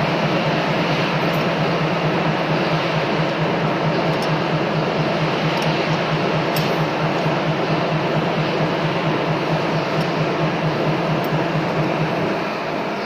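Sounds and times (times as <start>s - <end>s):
machinery running: 0.0s - 13.0s.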